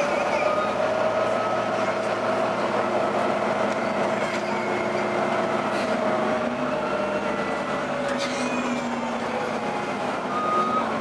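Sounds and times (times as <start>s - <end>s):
bus rumble: 0.0s - 11.0s.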